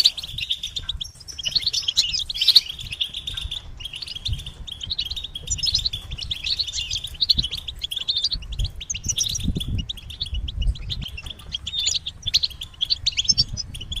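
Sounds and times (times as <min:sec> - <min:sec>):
goldfinches twittering: 0:00.0 - 0:14.0.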